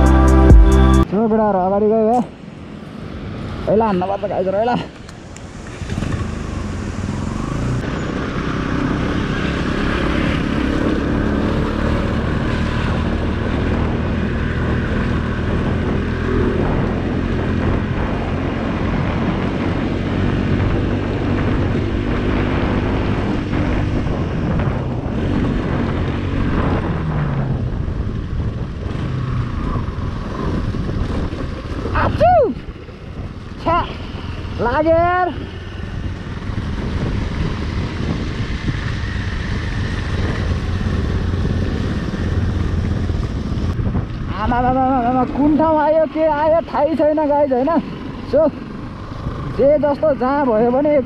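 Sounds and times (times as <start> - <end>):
tyres on gravel road: 2.2 - 51.0
wind noise: 3.0 - 51.0
motorcycle engine running: 5.6 - 51.0.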